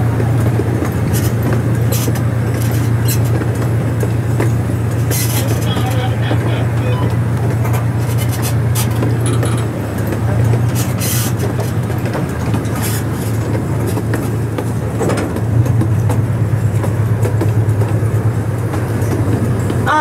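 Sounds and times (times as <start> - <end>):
moving train cars: 0.0 - 20.0
train engine drone: 0.0 - 20.0.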